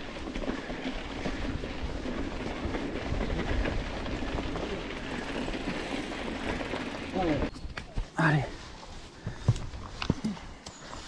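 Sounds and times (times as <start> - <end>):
bike rattling and crunching: 0.0 - 11.0.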